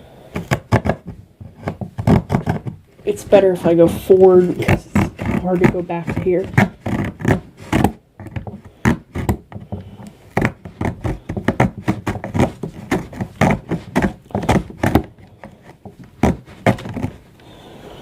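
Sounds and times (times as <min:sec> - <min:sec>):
saw sawing back and forth: 0:00.4 - 0:17.4.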